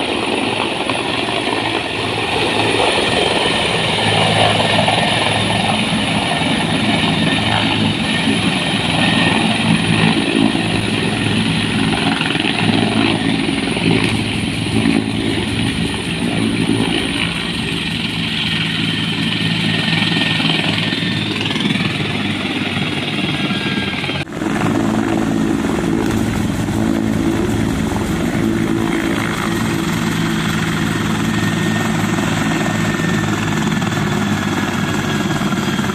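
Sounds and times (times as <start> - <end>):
helicopter rotor drone: 0.0 - 35.9
turbine whine: 0.0 - 35.9.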